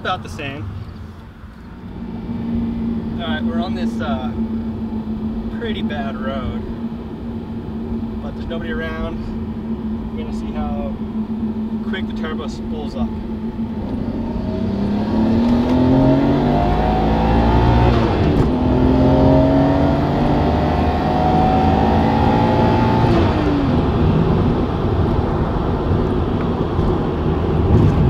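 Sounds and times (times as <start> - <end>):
car engine accelerating: 0.0 - 28.0
road and tyre noise: 0.0 - 28.0.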